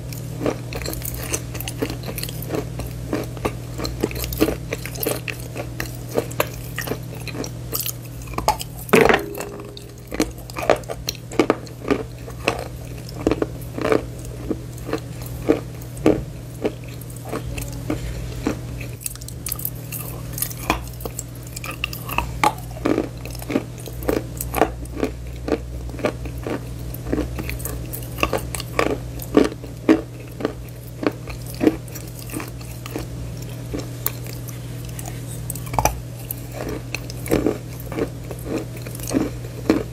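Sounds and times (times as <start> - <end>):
chalk crunching while chewed: 0.0 - 39.9
low steady hum: 0.0 - 39.9.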